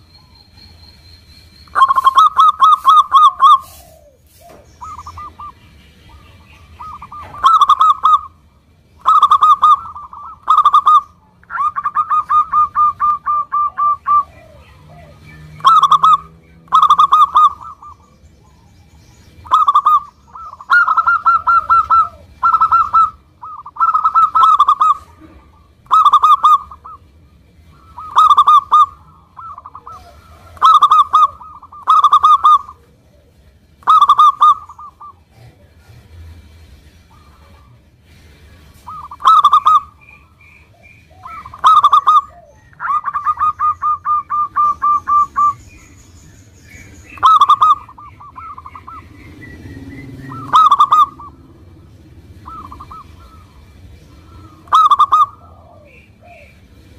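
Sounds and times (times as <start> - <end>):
dove cooing: 1.7 - 36.2, 36.8 - 46.1, 46.7 - 56.9.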